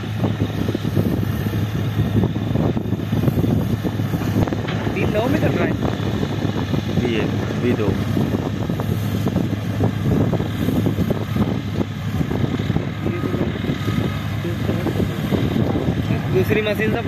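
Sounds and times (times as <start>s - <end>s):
distant tractor engine drone: 0.0s - 17.0s
low uneven rumble: 0.0s - 17.0s.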